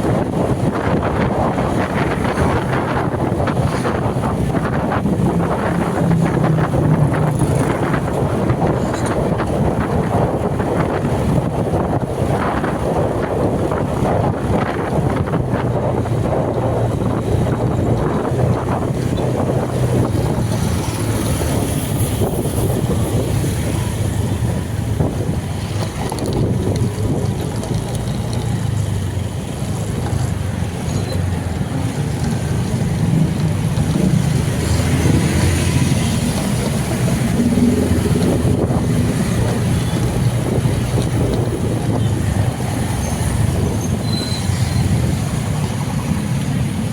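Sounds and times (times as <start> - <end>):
loud vehicle rumble: 0.0 - 46.9
wind buffeting microphone: 0.0 - 46.9.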